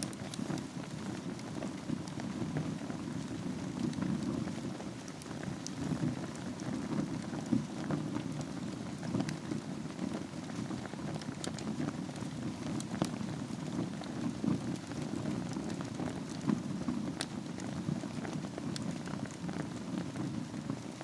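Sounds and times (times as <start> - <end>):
fire crackling and popping: 0.0 - 21.0
low rush of flames: 0.0 - 21.0.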